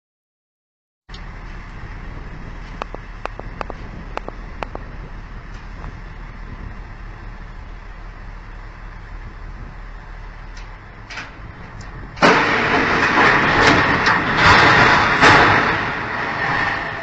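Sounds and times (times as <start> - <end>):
low rumble of heavy machine: 1.1 - 17.0.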